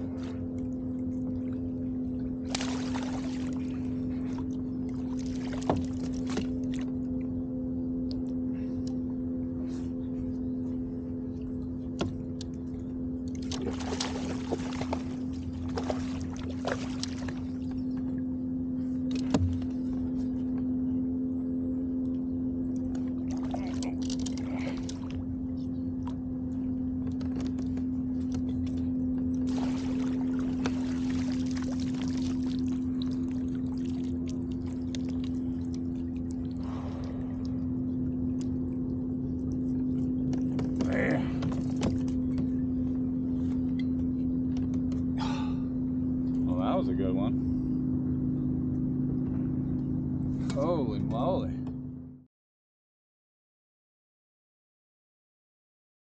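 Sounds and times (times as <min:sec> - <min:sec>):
motor hum: 0:00.0 - 0:52.3.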